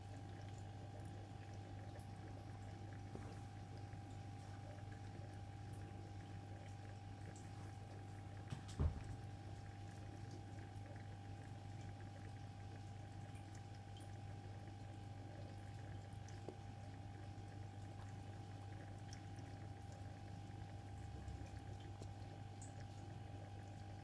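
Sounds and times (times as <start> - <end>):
aquarium pump humming: 0.0 - 24.0.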